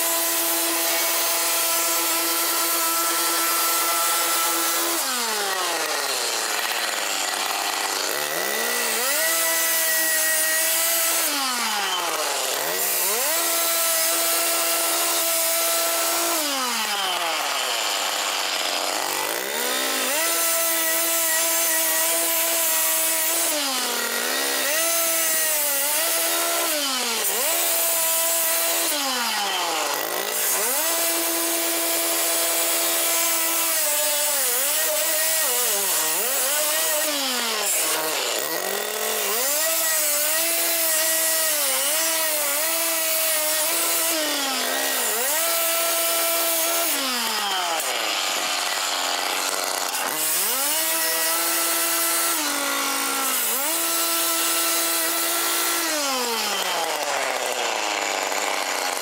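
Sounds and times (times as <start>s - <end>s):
power saw motor whine: 0.0s - 59.0s
saw rasping through steel: 0.0s - 59.0s.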